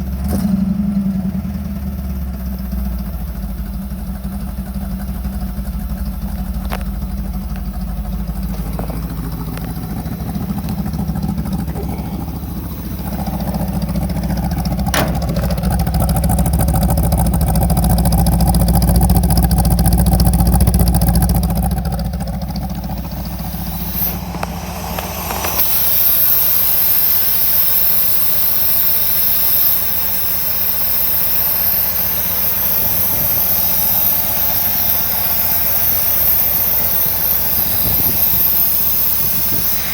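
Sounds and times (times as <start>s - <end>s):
engine idling low: 0.0s - 39.9s.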